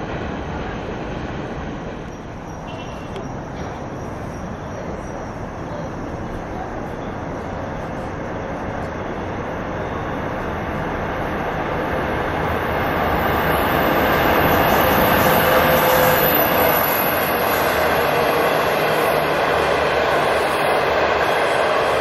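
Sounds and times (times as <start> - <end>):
train wheels rumbling on rails: 0.0 - 22.0
faint high whine: 2.0 - 22.0.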